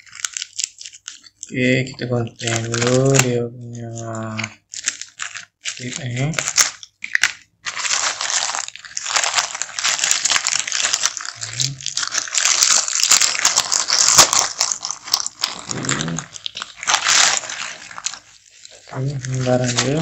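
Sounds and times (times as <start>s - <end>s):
plastic bag crinkling and tearing: 0.0s - 20.0s.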